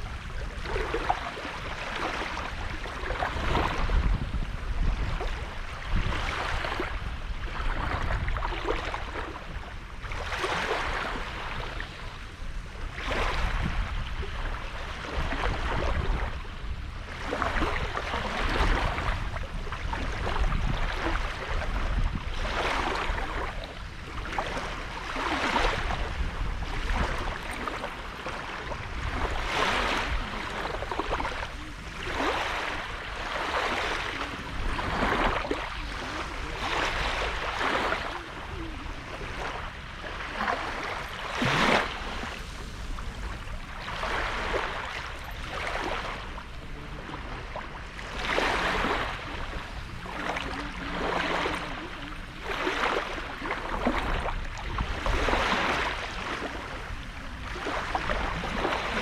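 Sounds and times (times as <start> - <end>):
small waves washing on sand: 0.0 - 59.0.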